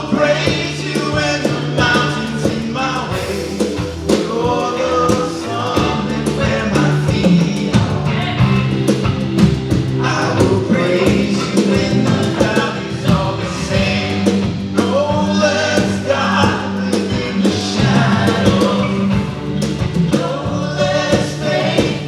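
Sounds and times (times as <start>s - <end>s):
person singing: 0.0s - 8.9s, 9.9s - 19.4s
live rock band playing: 0.0s - 22.0s.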